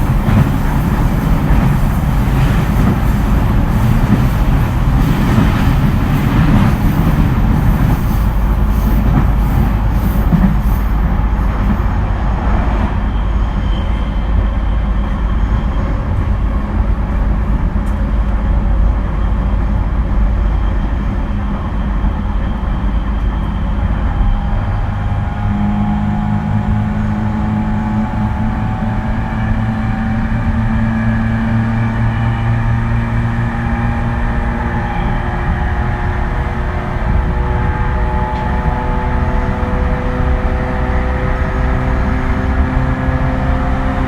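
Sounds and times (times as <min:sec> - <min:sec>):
train wheels on rails: 0:00.0 - 0:44.0.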